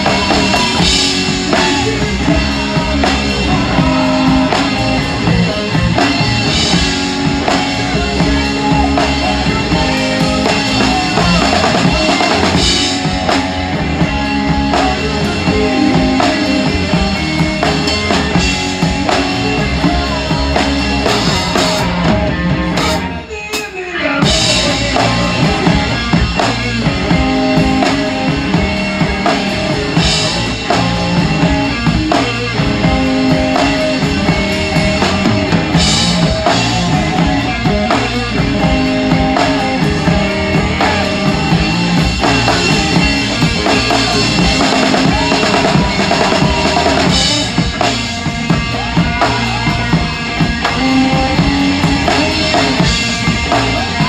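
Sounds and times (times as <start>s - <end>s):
drum kit playing hard: 0.0s - 54.0s
electric guitar: 0.0s - 54.0s.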